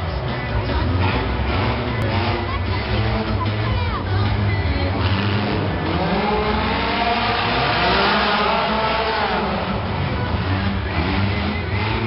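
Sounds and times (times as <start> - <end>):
small truck engines revving: 0.0 - 12.0.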